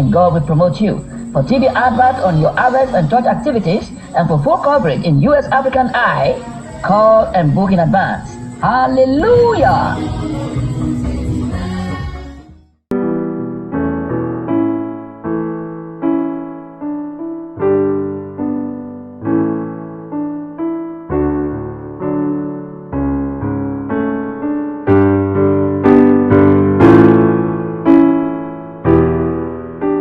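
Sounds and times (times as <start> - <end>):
keyboard chords and melody: 0.0 - 30.0.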